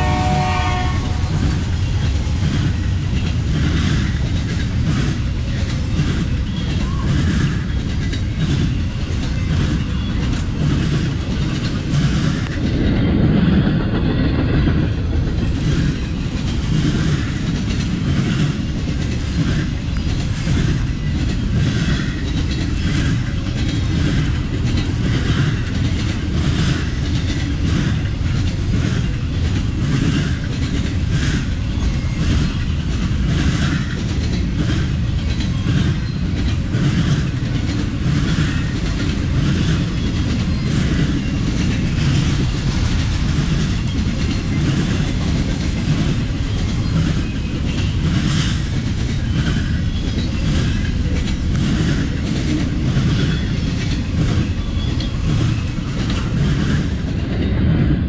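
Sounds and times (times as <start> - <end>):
freight train rumbling: 0.0 - 58.0
wheels clacking over track: 0.0 - 58.0.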